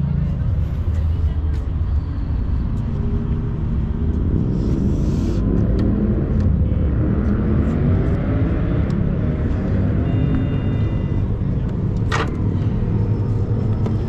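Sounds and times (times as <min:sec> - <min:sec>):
street traffic rumble: 0:00.0 - 0:14.0
vehicle engine rising in pitch: 0:01.8 - 0:14.0.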